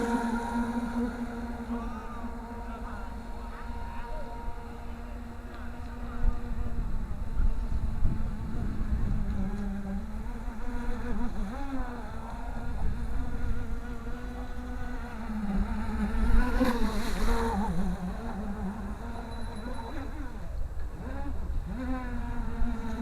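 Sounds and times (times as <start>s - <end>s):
model boat motor buzzing: 0.0s - 23.0s.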